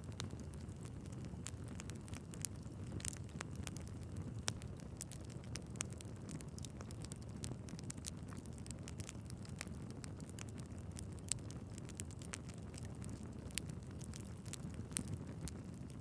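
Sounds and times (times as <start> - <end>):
fire crackling: 0.0 - 16.0
fire rumbling: 0.0 - 16.0.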